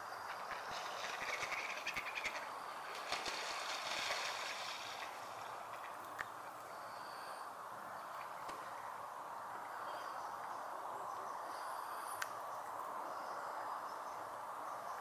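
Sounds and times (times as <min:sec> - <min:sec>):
water: 0:00.0 - 0:15.0
wind: 0:00.0 - 0:15.0.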